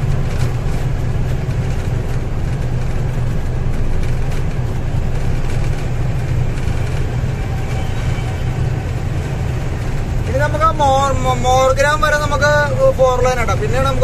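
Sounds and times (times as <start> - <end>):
road noise: 0.0 - 14.0
truck engine running: 0.0 - 14.0.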